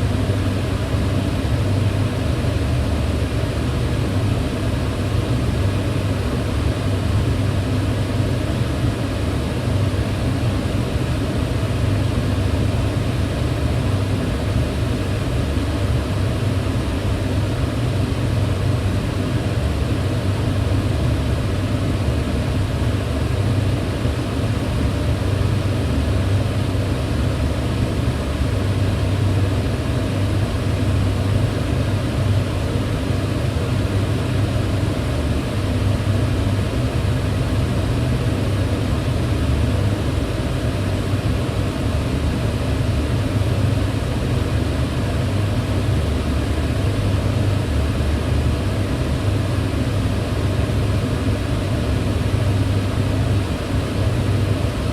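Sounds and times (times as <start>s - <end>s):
range hood fan humming: 0.0s - 54.9s.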